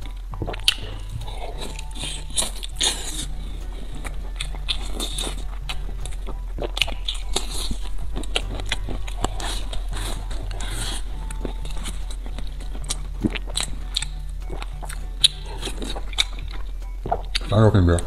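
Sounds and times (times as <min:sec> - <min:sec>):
wet chewing and mouth smacks: 0:00.0 - 0:18.0.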